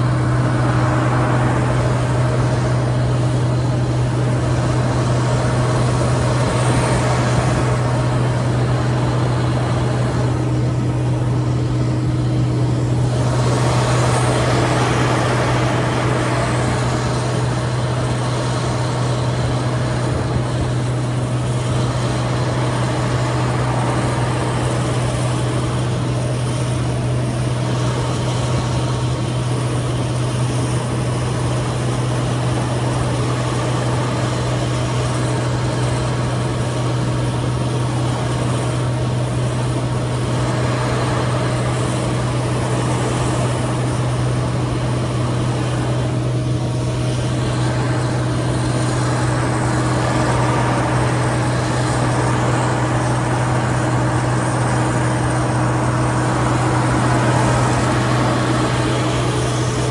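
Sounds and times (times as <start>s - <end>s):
combine diesel engine drone: 0.0s - 59.9s
rush of machinery noise: 0.0s - 59.9s.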